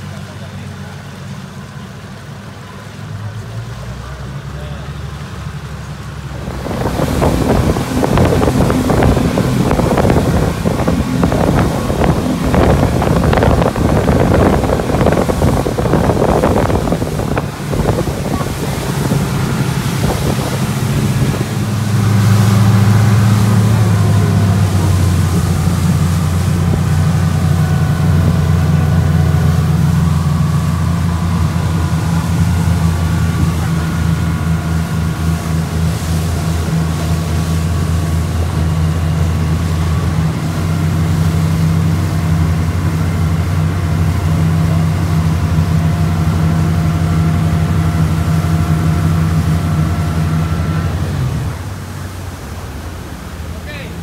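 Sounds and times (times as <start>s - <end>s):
speedboat engines droning: 0.0s - 54.0s
water rushing along hull: 0.0s - 54.0s.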